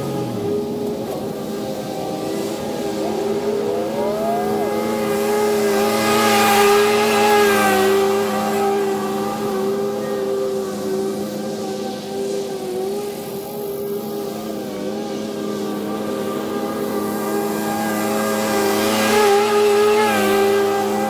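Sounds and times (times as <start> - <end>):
lawn mower cutting grass: 0.0 - 21.0
road traffic: 0.0 - 21.0
vehicle engine rising in pitch: 0.0 - 21.0.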